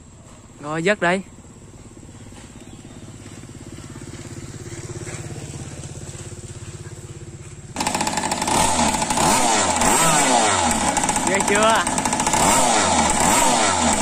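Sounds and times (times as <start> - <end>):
two-stroke engine idling and revving: 0.0 - 14.0.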